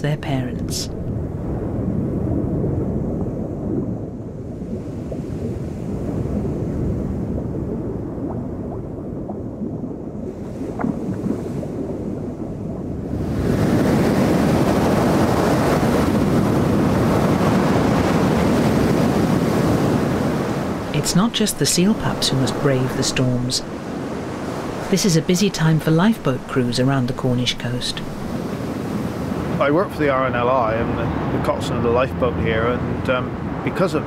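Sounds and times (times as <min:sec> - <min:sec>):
muffled underwater rushing: 0:00.0 - 0:34.0
storm surf breaking on rocks: 0:00.5 - 0:31.3.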